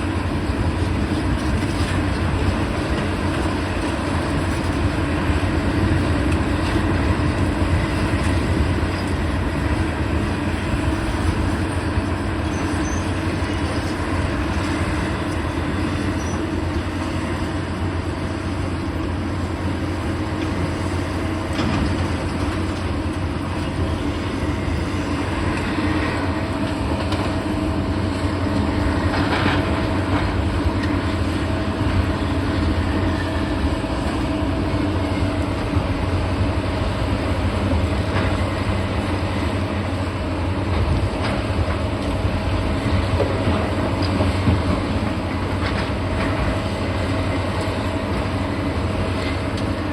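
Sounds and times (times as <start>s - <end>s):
diesel engine drone: 0.0s - 49.9s.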